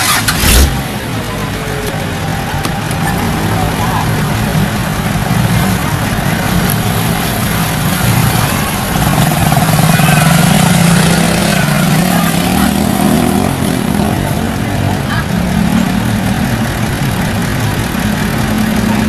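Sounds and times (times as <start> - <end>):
diesel truck engine straining: 0.0 - 19.0.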